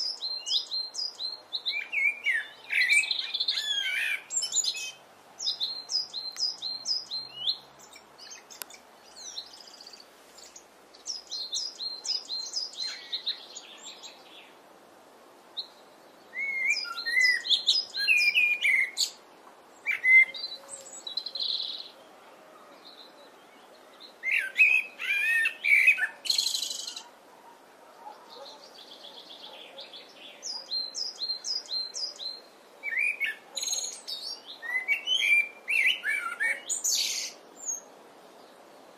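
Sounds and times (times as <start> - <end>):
blackbird singing: 0.0 - 14.5, 15.6 - 19.2, 19.8 - 22.0, 22.7 - 27.1, 28.0 - 38.4.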